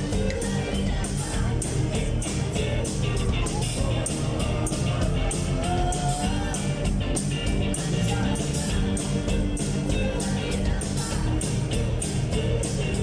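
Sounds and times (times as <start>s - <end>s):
drum beat with cymbals: 0.0s - 13.0s
electric guitar: 0.0s - 13.0s.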